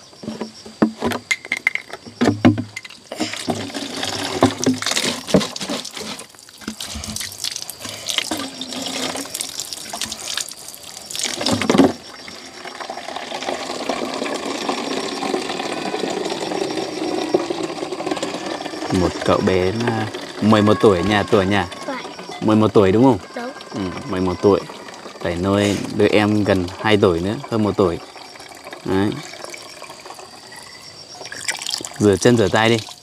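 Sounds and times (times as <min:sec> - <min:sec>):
water containers knocking: 0:00.2 - 0:33.0
running water splashing: 0:03.0 - 0:33.0.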